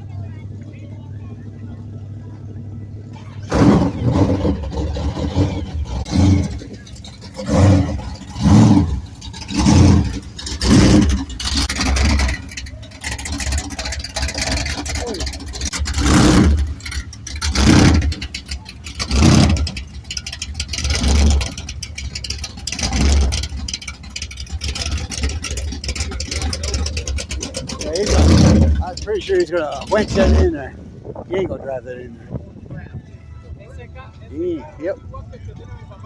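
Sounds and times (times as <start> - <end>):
car engine revving: 0.0 - 31.2.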